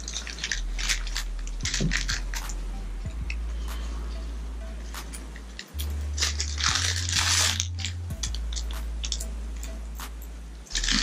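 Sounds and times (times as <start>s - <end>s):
rubber and glove rustling: 0.0s - 3.9s, 5.0s - 11.0s.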